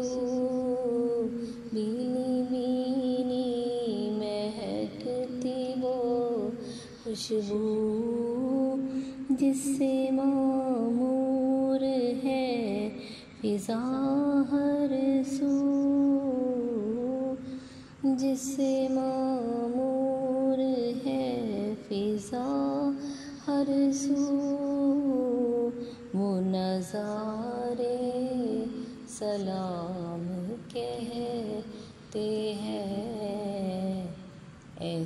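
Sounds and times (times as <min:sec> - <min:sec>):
woman singing: 0:00.0 - 0:35.0.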